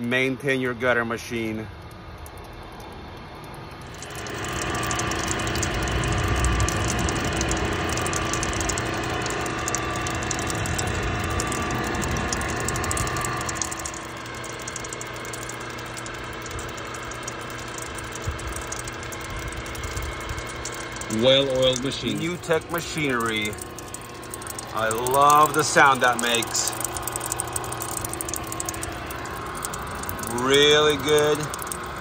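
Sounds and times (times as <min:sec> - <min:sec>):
gear motor whine: 0:02.2 - 0:32.0.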